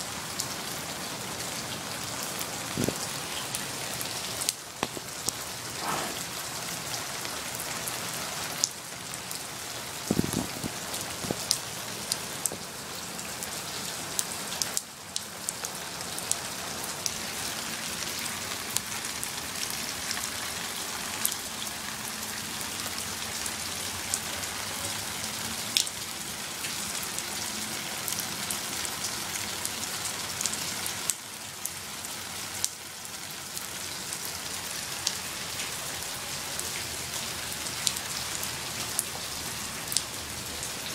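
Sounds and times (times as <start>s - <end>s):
rain: 0.0s - 40.9s.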